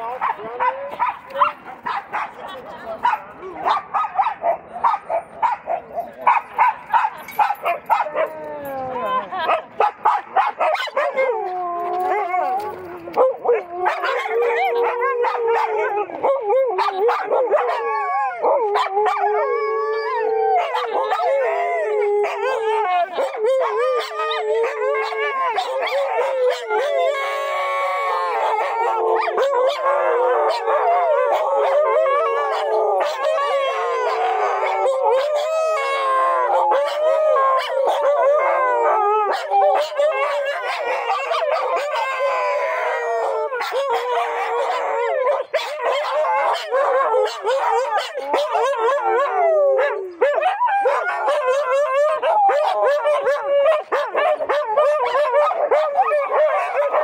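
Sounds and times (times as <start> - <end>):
dogs barking and yipping: 0.0 - 57.0
huskies howling: 10.5 - 57.0.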